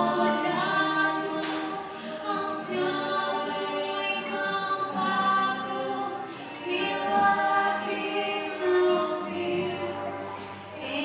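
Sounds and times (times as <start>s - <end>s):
voices singing in harmony: 0.0s - 11.0s.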